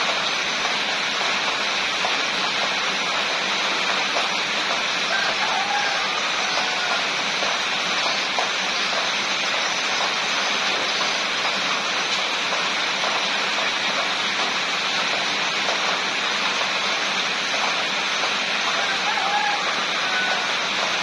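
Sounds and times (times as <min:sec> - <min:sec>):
raindrop ticks: 0:00.0 - 0:21.0
steady rain hiss: 0:00.0 - 0:21.0.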